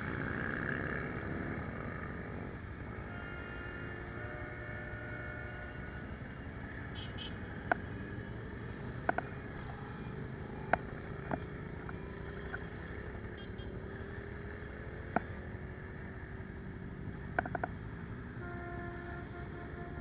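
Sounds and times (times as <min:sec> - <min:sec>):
motorcycle engines rumbling: 0:00.0 - 0:20.0.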